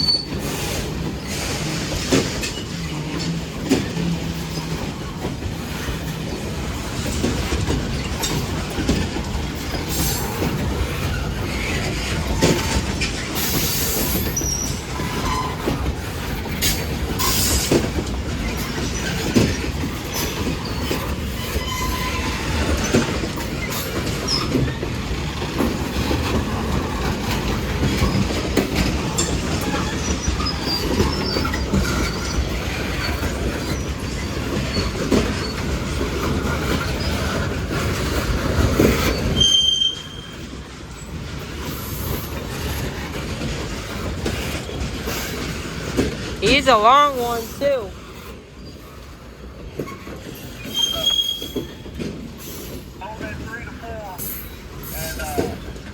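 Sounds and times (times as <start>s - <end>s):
wheel squeals: 0.0s - 5.0s, 5.6s - 49.2s, 49.8s - 55.8s
train cars clacking and knocking: 0.0s - 55.9s
train wheels rumbling on rail: 0.0s - 55.9s.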